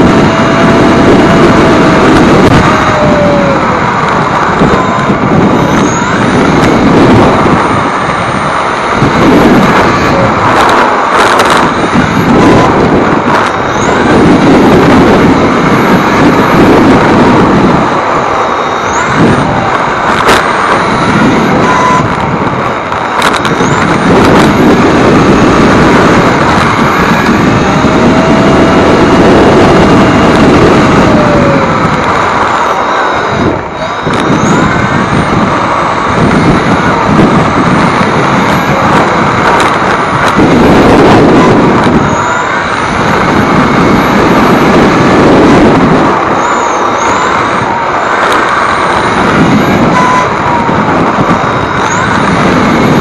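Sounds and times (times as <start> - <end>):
electric motor high whine: 0.0 - 53.0
rushing road and wind noise: 0.0 - 53.0.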